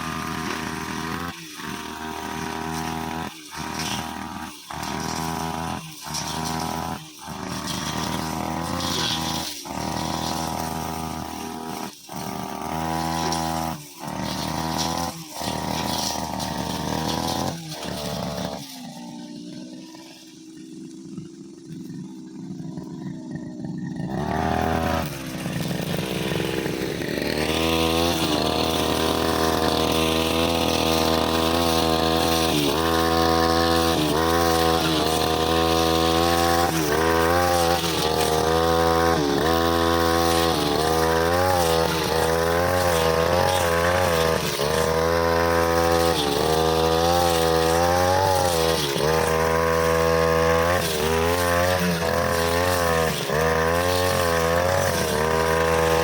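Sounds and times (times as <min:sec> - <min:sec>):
brushcutter engine cutting grass: 0:00.0 - 0:56.0.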